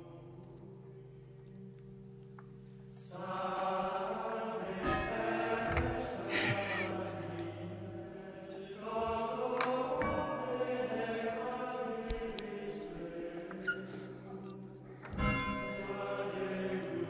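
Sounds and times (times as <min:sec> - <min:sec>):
slow choral chant: 0:00.0 - 0:17.0.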